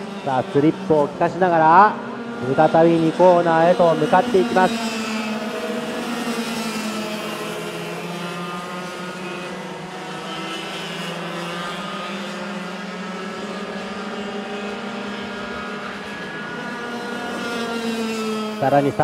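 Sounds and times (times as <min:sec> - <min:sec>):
kart engines racing: 0:00.0 - 0:19.0.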